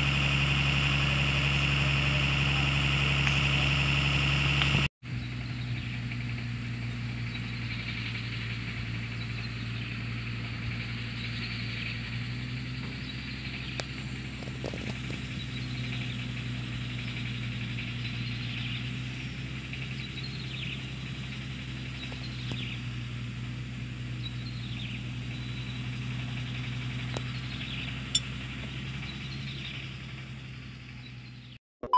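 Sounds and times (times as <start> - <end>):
engine idling: 0.0 - 31.6.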